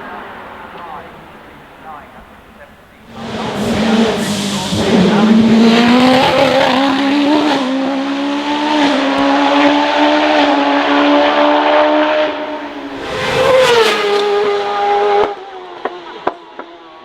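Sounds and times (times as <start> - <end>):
race car engine at high revs: 3.0 - 17.0.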